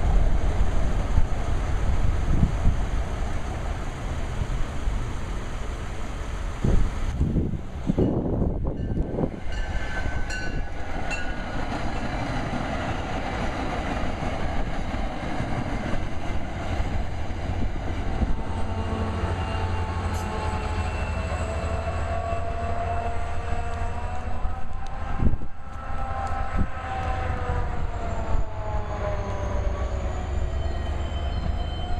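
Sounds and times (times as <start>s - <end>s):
diesel locomotive drone: 0.0s - 31.9s
train rumbling past: 0.0s - 31.9s.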